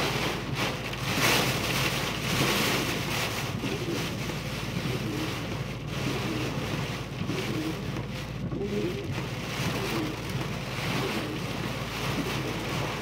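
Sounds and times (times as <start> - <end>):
rain beating on a car: 0.0 - 13.0.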